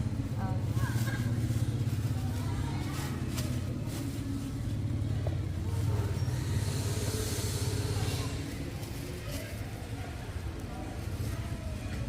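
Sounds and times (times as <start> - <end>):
engine running with pulsing hum: 0.0 - 12.0.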